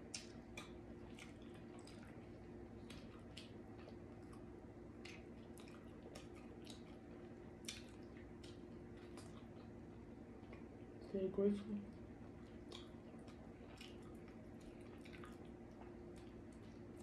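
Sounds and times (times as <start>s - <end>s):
wet chewing and smacking: 0.0s - 11.0s, 11.9s - 17.0s
faint steady hum: 0.0s - 17.0s.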